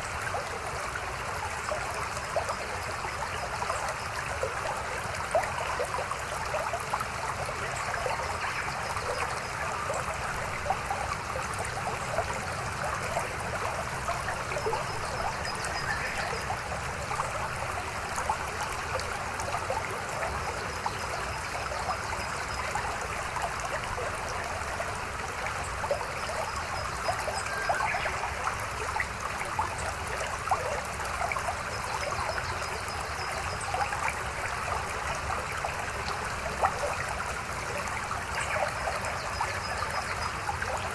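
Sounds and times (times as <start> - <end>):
stream murmuring and trickling: 0.0 - 40.9.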